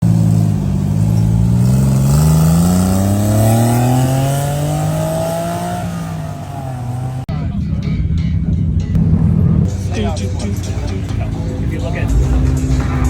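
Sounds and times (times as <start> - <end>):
car engine accelerating: 0.0 - 7.5, 8.9 - 13.0.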